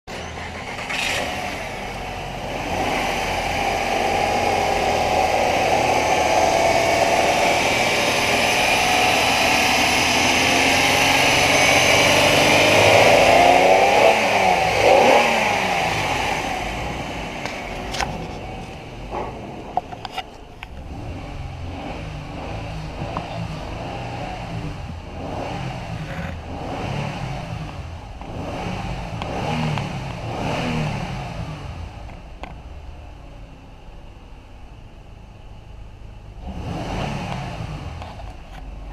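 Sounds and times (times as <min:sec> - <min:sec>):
car engine revving and idling: 0:00.1 - 0:38.9.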